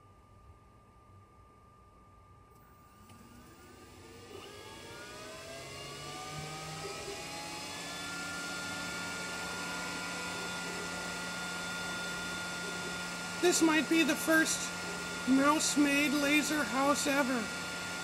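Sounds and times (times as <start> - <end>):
laser cutter fans whining and humming: 2.2 - 18.0.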